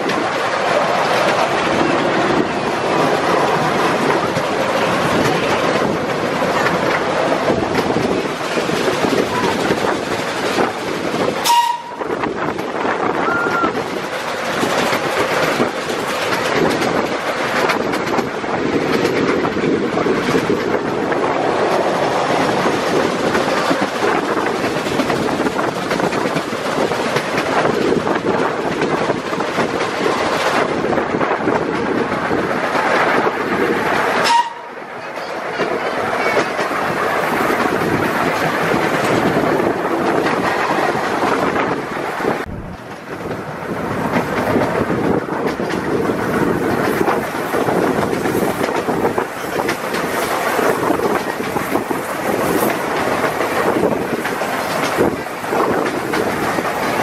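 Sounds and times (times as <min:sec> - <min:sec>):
train wheels rattling on rails: 0:00.0 - 0:57.0.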